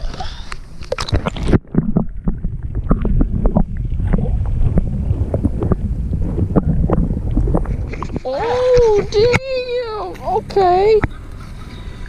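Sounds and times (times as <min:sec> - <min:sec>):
wind rumbling on microphone: 0:00.7 - 0:12.0.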